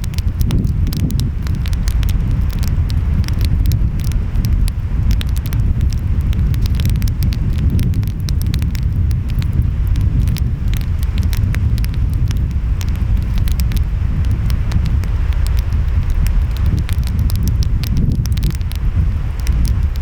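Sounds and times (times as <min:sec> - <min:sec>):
wind: 0:00.0 - 0:20.0
wood fire crackling: 0:00.0 - 0:20.0.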